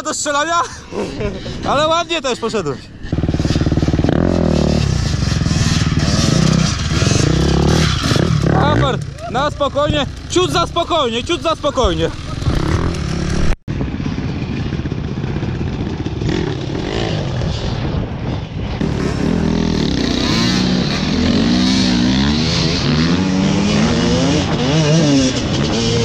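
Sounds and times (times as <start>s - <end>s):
dirt bike engines revving: 0.6s - 26.0s.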